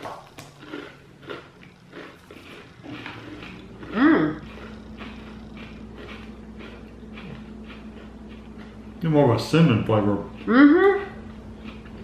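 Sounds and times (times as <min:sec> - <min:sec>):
faint steady hum: 0:00.0 - 0:12.0
person chewing crunchy granola bar: 0:00.0 - 0:12.0.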